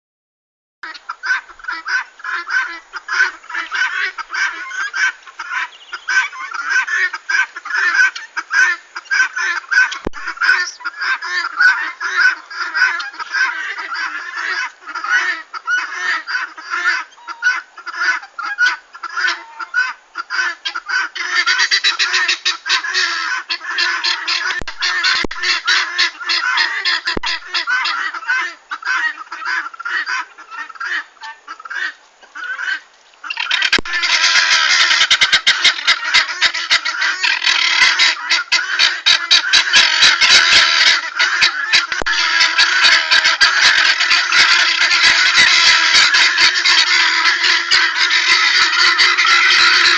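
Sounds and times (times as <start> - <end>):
guinea fowl calling: 0.8 - 49.9.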